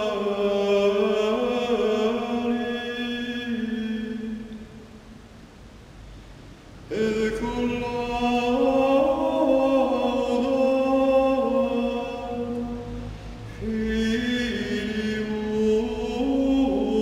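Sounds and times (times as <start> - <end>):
man singing chant unaccompanied: 0.0 - 5.0, 6.8 - 17.0.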